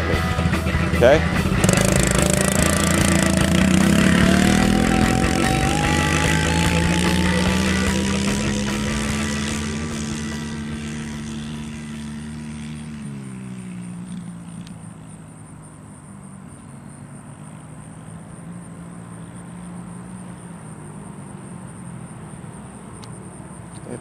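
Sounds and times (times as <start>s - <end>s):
dirt bike engine riding away: 0.0s - 24.0s.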